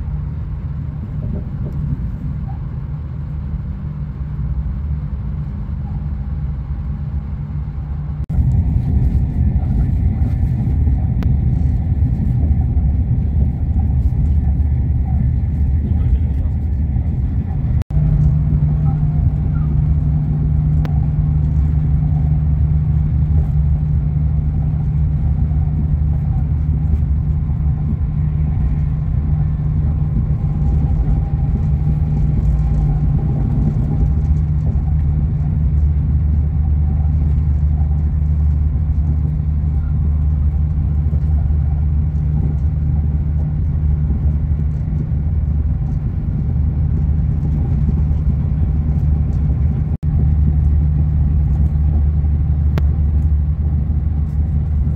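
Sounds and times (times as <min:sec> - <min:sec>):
train rumbling at speed: 0:00.0 - 0:54.9.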